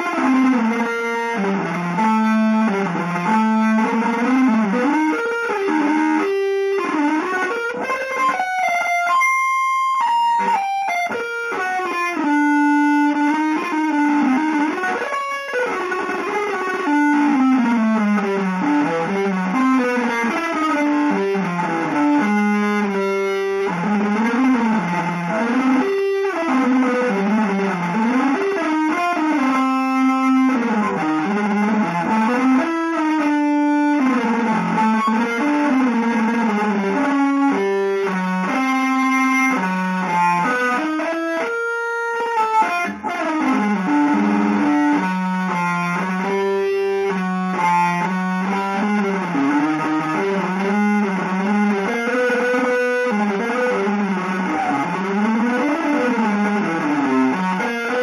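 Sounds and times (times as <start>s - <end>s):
electric guitar melody: 0.0s - 58.0s.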